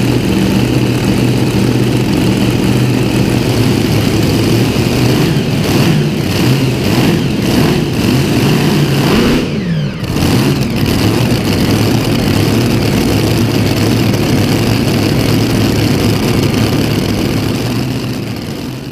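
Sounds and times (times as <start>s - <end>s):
engine revving and idling: 0.0s - 18.9s.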